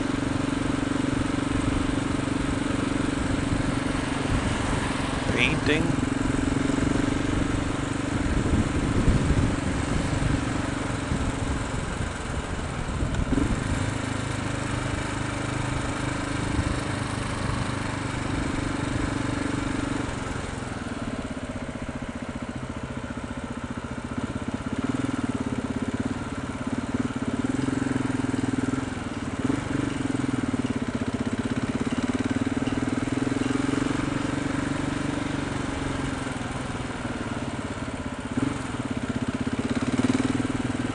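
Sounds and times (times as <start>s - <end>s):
motorcycle engine running: 0.0s - 40.9s
road and wind rumble: 0.0s - 40.9s.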